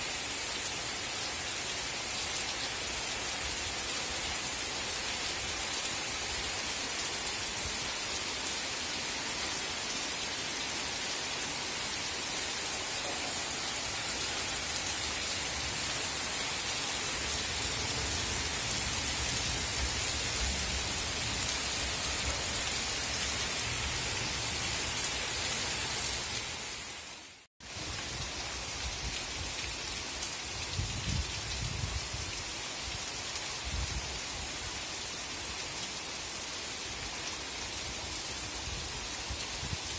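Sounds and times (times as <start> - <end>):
heavy rain on roofs and leaves: 0.0 - 39.9.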